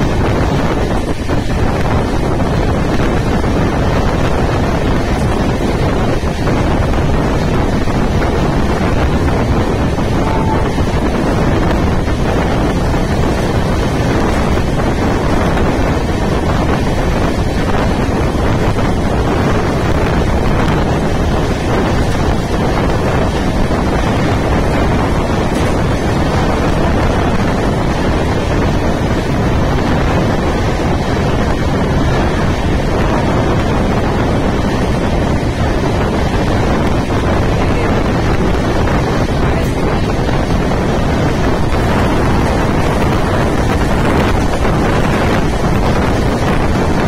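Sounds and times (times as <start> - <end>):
moving train rumble: 0.0 - 47.0
wind rushing over microphone: 0.0 - 47.0.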